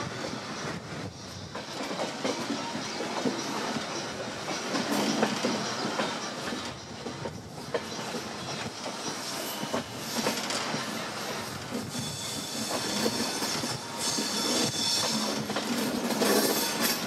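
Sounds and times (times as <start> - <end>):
train coach rumbling: 0.0 - 17.0.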